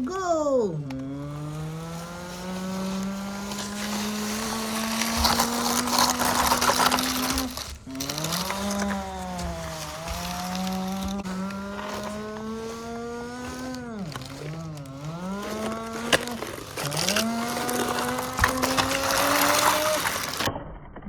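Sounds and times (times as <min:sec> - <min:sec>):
person humming engine noise: 0:00.0 - 0:20.5.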